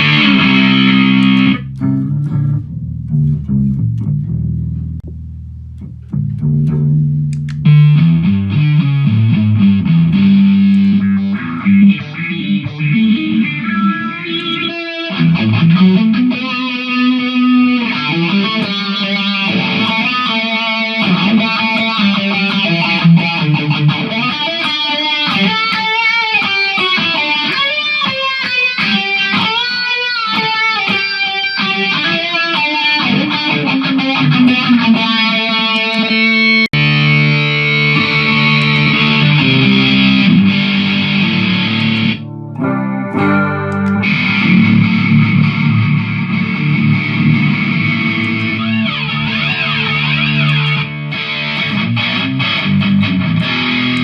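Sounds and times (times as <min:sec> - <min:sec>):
distorted guitar chords: 0:00.0 - 0:54.0
electric guitar lead line: 0:00.0 - 0:54.0.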